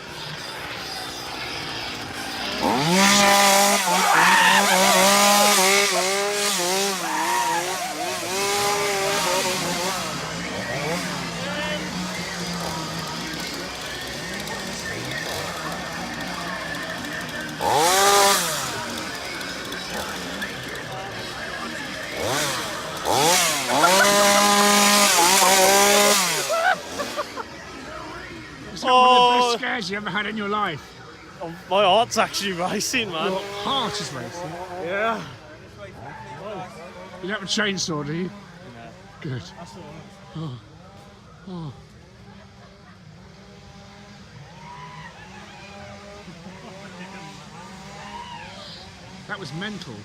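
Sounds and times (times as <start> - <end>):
chainsaw engine revving: 0.0 - 29.7, 30.8 - 35.8, 36.4 - 50.0.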